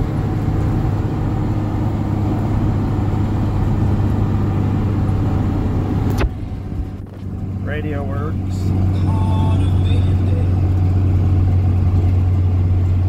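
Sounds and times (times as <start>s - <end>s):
engine and road noise drone: 0.0s - 13.0s.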